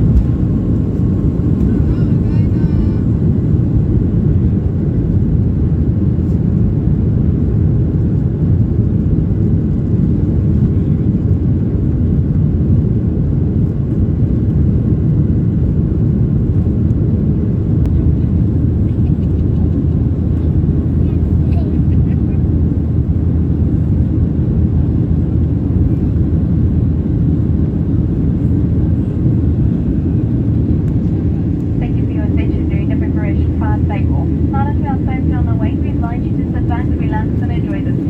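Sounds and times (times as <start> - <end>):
airliner cabin rumble: 0.0 - 38.0.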